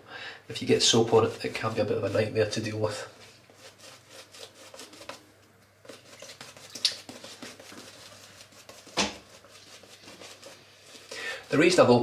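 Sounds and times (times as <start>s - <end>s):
shaving brush swishing: 0.8s - 5.2s, 5.9s - 11.8s.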